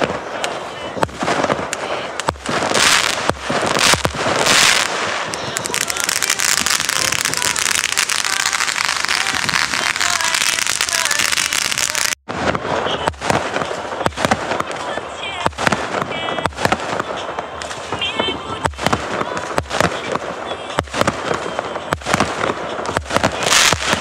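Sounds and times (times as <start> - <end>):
firework bangs: 0.0 - 24.0
firework crackle of small pops: 0.0 - 24.0.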